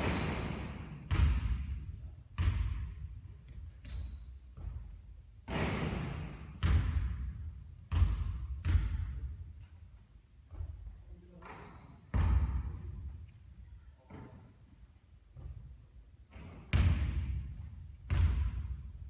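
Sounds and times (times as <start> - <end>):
basketball bouncing on court: 0.0 - 9.8, 10.5 - 13.0, 15.3 - 15.7, 16.3 - 19.0.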